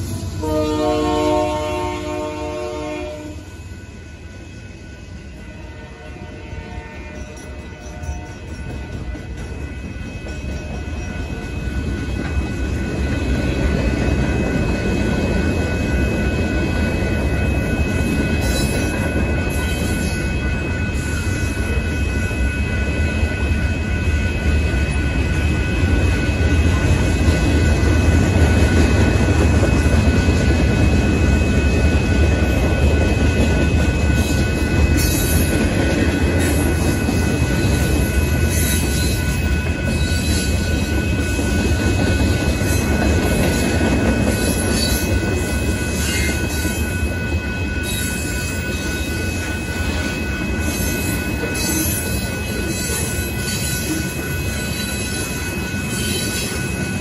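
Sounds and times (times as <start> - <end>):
freight train wheels clattering: 0.0 - 2.6, 6.7 - 57.0.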